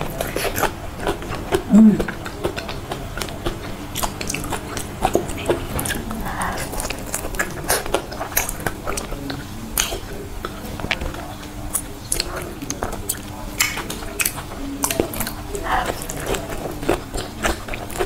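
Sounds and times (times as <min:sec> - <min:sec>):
wet biting and chewing: 0:00.0 - 0:18.0.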